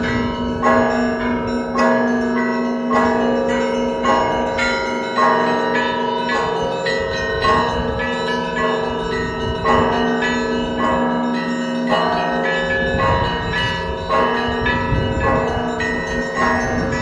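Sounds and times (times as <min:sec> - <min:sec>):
hand-rung bells striking: 0:00.0 - 0:17.0
large bell humming: 0:00.0 - 0:17.0.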